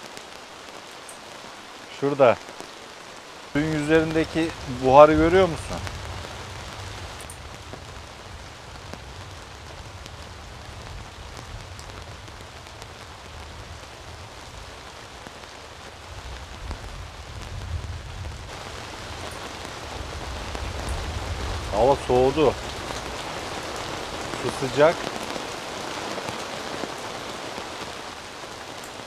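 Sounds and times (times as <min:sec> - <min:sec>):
raindrop ticks: 0:00.0 - 0:02.8, 0:03.5 - 0:29.0
heavy rain: 0:00.0 - 0:29.0.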